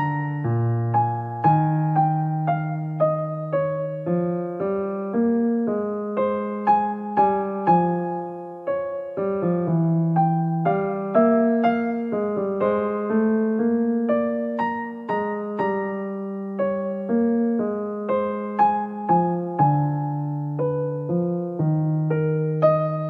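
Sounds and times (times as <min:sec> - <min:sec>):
slow electric piano music: 0:00.0 - 0:23.0.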